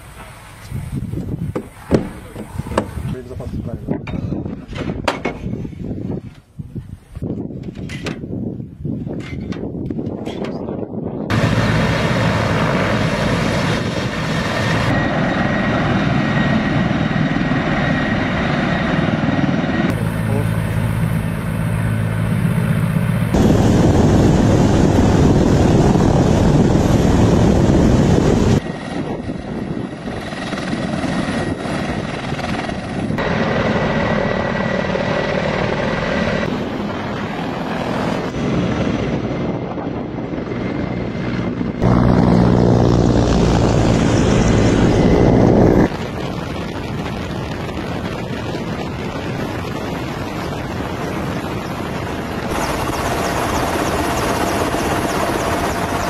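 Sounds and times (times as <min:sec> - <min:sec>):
helicopter rotors and turbines: 0:00.0 - 0:56.0.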